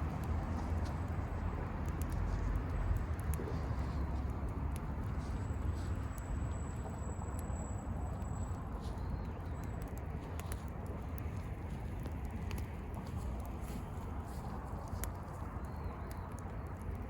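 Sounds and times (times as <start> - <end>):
firewood crackling and popping: 0.0 - 17.0
low rumble of fire: 0.0 - 17.0.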